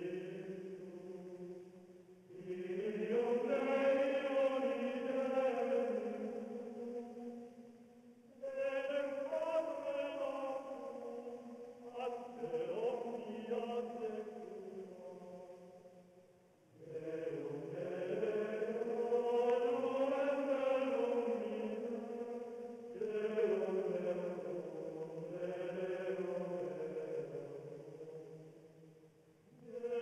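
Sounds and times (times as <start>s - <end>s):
chanted singing: 0.0s - 16.0s, 16.7s - 28.8s, 29.4s - 30.0s.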